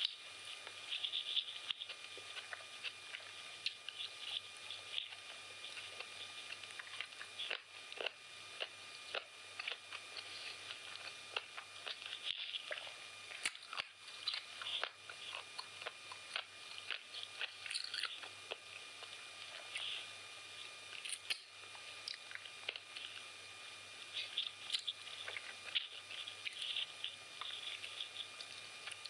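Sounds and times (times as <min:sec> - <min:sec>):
faint electrical hum: 0:00.0 - 0:29.0
person chewing food: 0:00.0 - 0:29.0.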